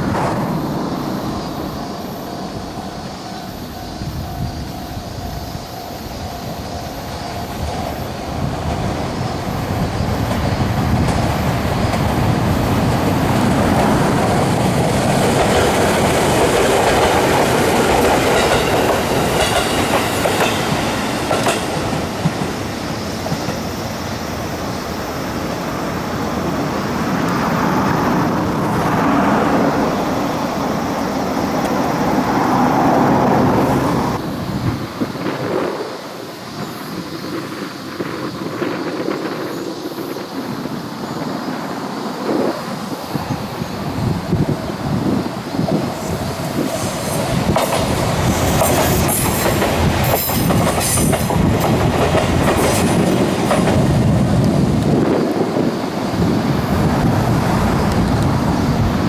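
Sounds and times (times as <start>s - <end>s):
wheels clicking over rail joints: 0.0s - 40.2s, 42.4s - 59.0s
electric train passing: 0.0s - 59.0s.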